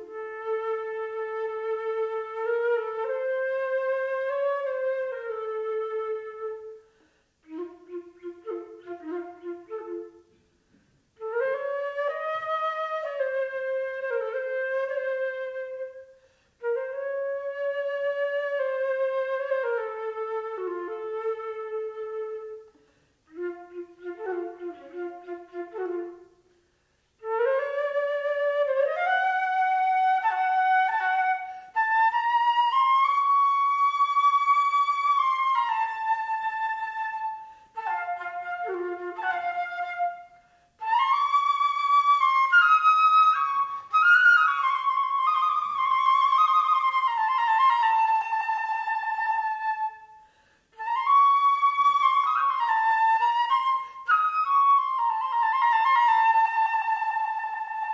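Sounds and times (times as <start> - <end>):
solo flute playing: 0.0 - 57.9.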